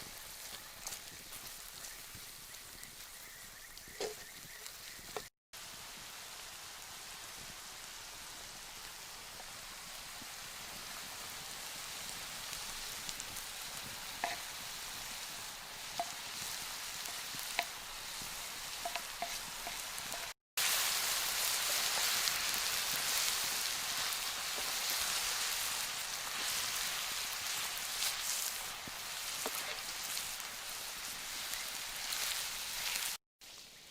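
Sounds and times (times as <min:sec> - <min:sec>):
food sizzling in a pan: 0:00.0 - 0:33.9
small pops of frying: 0:00.0 - 0:33.9.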